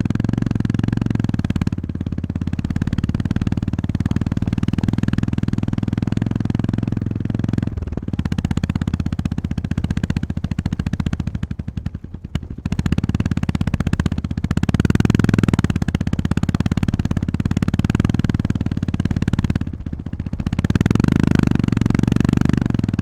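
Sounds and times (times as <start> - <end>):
motorcycle engine thumping: 0.0 - 23.0.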